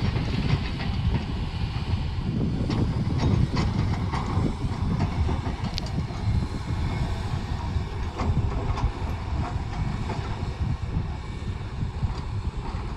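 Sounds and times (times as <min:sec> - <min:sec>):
earthmoving machinery rumbling: 0:00.0 - 0:12.9.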